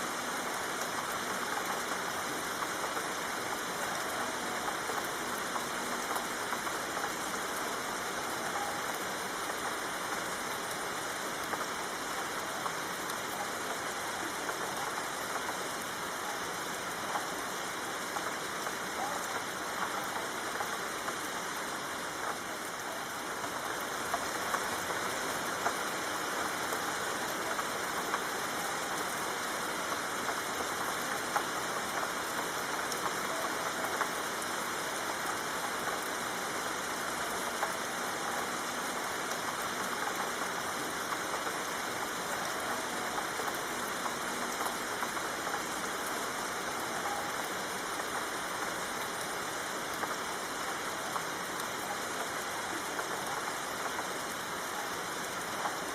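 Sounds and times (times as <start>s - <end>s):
soft rain falling: 0.0s - 55.9s.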